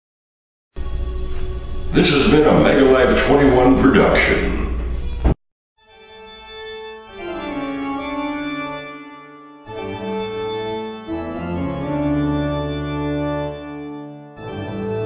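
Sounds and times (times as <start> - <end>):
organ playing slow chords: 0.8 - 4.7, 5.8 - 15.0.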